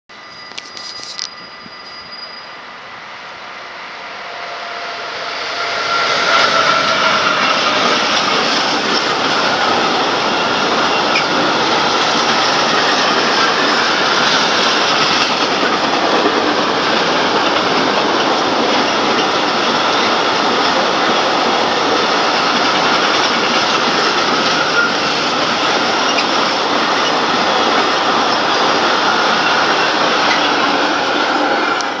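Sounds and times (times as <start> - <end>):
freight train wheels rolling: 0.2 - 32.0.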